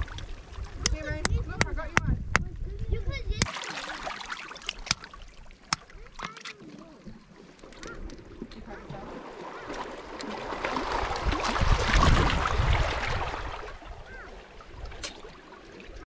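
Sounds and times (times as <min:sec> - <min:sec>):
seawater splashing around rocks: 0:00.0 - 0:01.8, 0:03.3 - 0:16.0.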